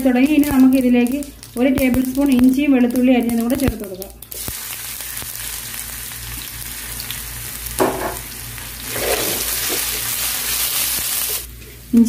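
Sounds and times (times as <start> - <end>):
food sizzling in hot oil: 0.0 - 11.6.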